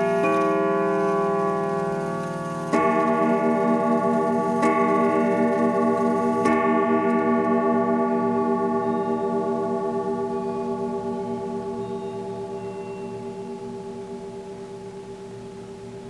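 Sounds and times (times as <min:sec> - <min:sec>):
grandfather clock striking: 0:00.0 - 0:16.0.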